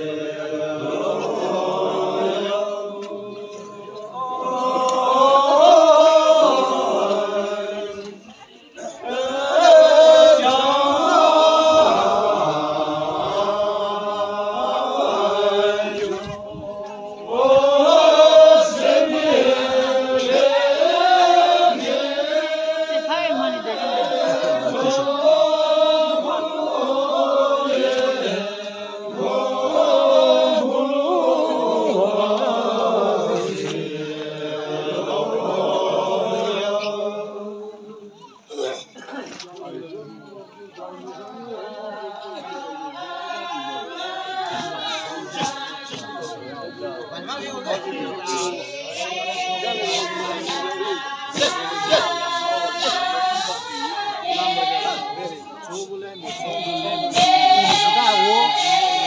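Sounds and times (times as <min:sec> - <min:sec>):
voices chanting: 0:00.0 - 0:59.0.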